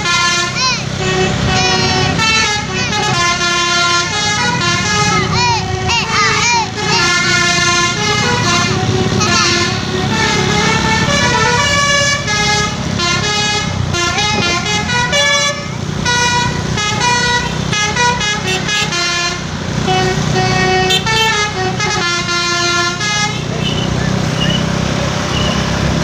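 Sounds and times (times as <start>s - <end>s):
musical air horn melody: 0.0s - 23.8s
low traffic rumble: 0.0s - 26.0s.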